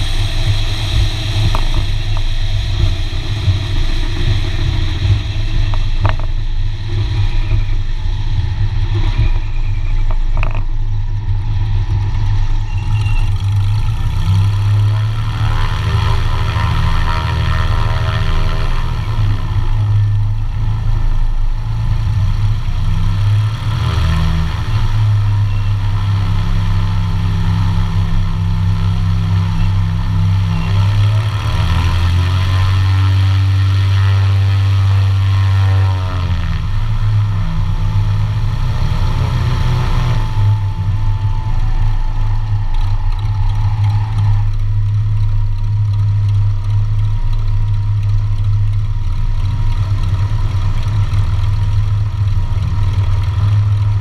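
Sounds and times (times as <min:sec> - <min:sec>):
light aircraft engines taxiing: 0:00.0 - 0:54.0.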